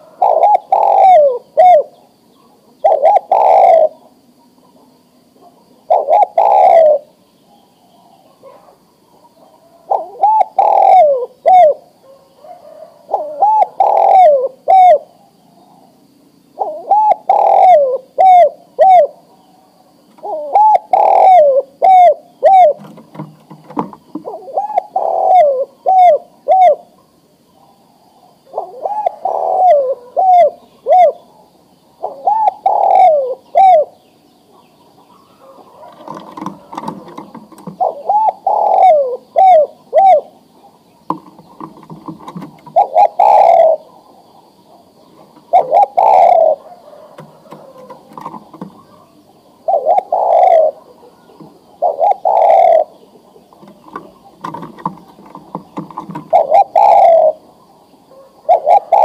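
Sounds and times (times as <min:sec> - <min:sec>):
dove cooing: 0:00.0 - 0:59.0
small birds chirping: 0:00.0 - 0:59.0.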